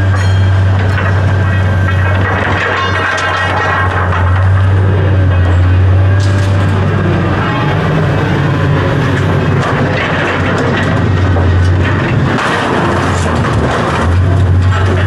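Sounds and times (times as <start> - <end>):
large engine humming: 0.0 - 15.0
rattles and clicks: 0.0 - 15.0.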